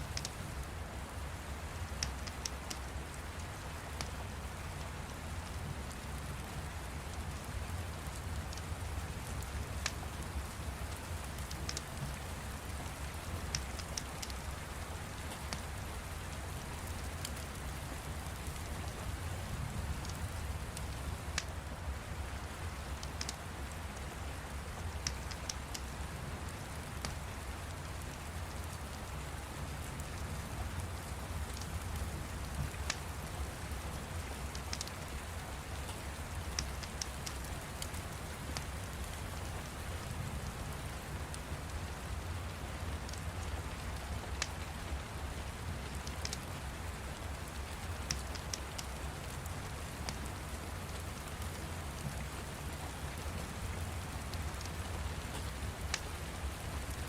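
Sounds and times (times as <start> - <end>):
steady rain: 0.0 - 57.0
wood fire crackling: 0.0 - 57.0.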